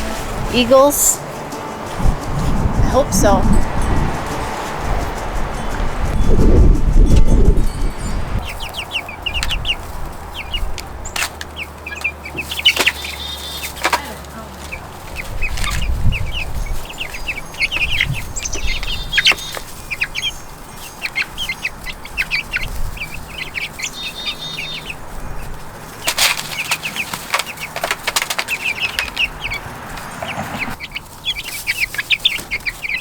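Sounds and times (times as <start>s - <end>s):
chickens clucking: 0.0s - 33.0s
rustling bursts: 0.0s - 33.0s.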